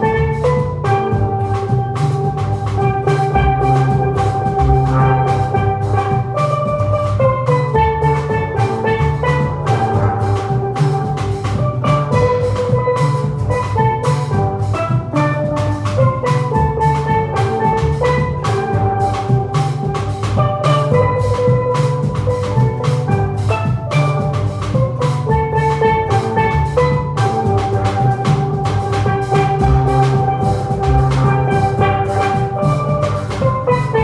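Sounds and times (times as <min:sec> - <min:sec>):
bass pans: 0:00.0 - 0:34.0
drum kit beat: 0:00.0 - 0:34.0
steel pans playing melody: 0:00.0 - 0:34.0.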